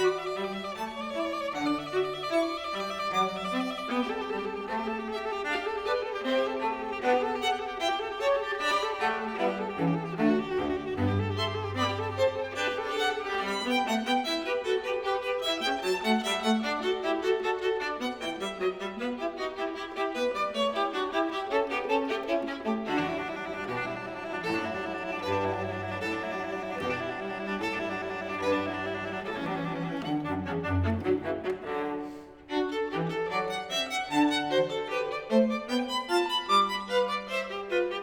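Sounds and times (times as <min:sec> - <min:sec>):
lower bowed strings: 0:00.0 - 0:38.0
violin melody: 0:00.0 - 0:38.0.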